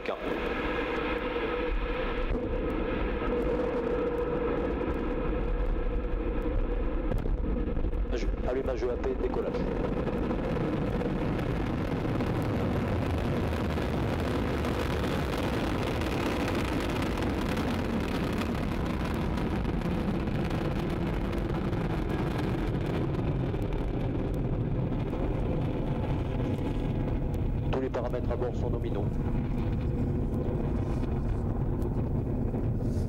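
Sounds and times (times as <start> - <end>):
rocket engines roaring: 0.0 - 33.0.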